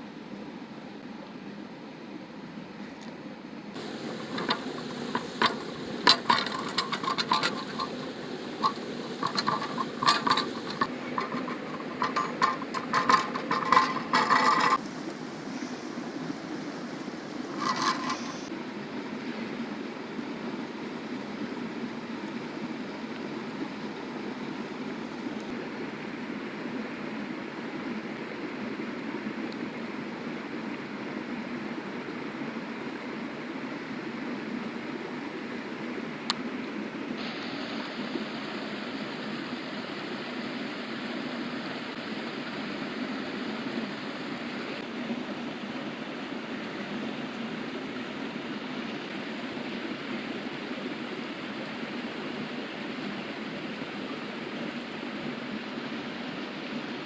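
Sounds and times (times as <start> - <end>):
river water flowing: 3.6 - 57.0.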